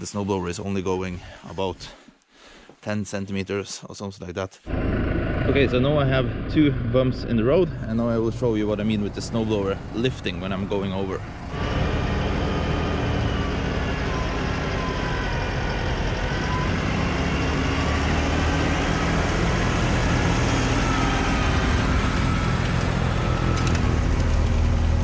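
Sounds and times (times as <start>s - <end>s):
tractor engine running: 4.7s - 25.0s.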